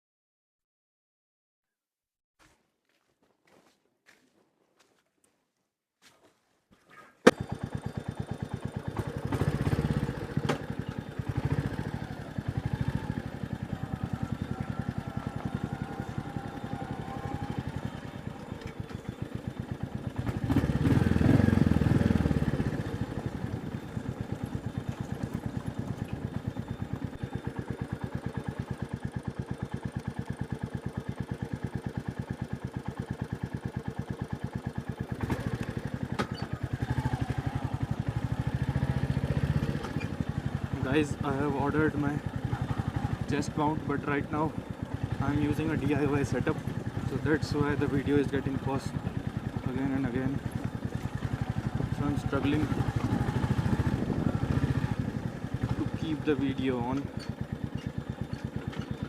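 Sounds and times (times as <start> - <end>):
motorcycle engine running: 7.2 - 59.0.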